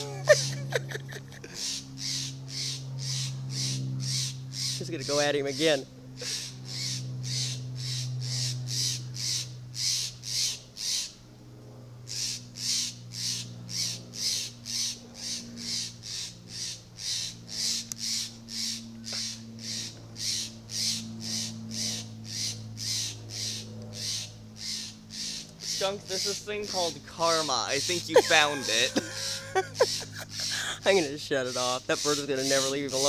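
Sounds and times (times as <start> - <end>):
bird alarm calls: 1.5 - 11.2, 12.1 - 33.0.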